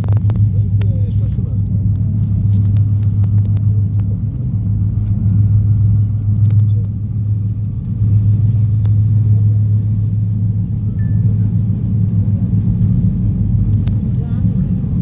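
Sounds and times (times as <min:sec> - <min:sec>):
train rumbling from inside coach: 0:00.0 - 0:15.0.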